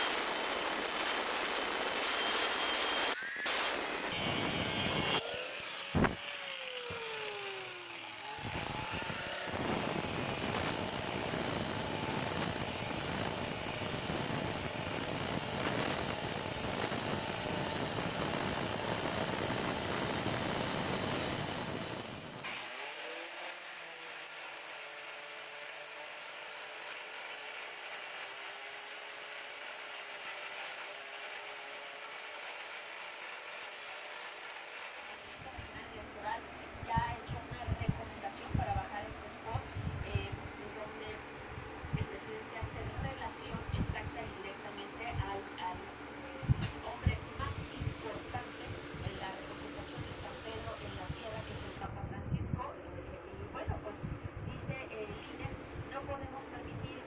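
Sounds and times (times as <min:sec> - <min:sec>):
power tool whines: 0:00.0 - 0:51.8.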